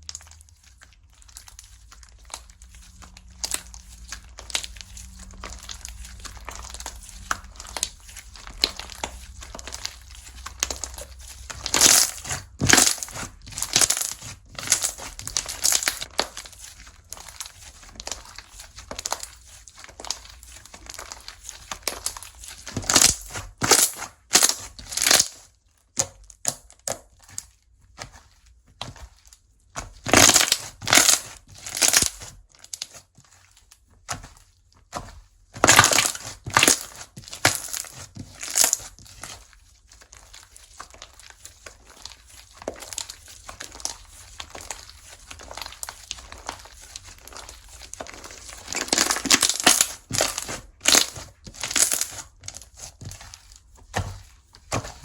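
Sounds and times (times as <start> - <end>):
slime squelching and popping: 0.0 - 55.0.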